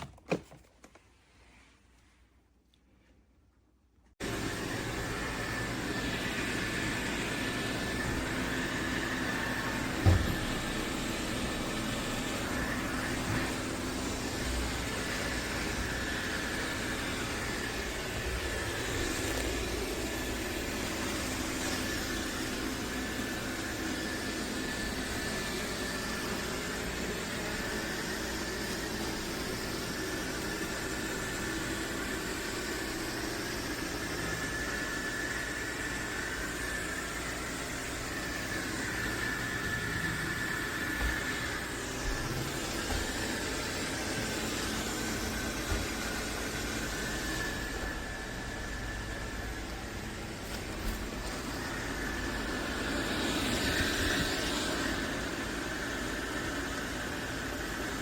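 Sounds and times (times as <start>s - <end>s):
robot vacuum fan whine: 4.2s - 58.0s.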